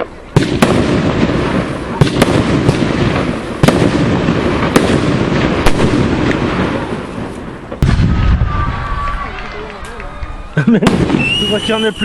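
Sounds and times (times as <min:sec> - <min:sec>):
sharp firework bangs: 0:00.0 - 0:09.3, 0:10.7 - 0:12.0
fireworks rumbling and crackling: 0:00.0 - 0:12.0
heavy firework boom: 0:00.4 - 0:09.2, 0:10.8 - 0:11.7.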